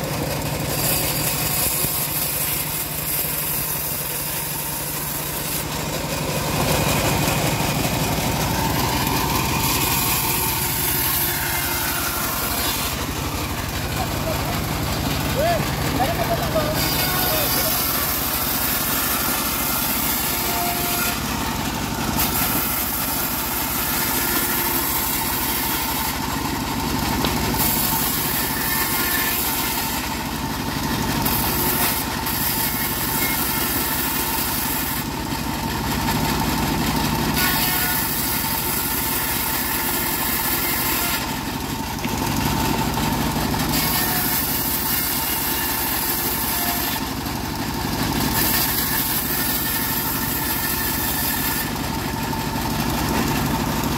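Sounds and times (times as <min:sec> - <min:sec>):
bandsaw cutting wood: 0:00.0 - 0:53.9.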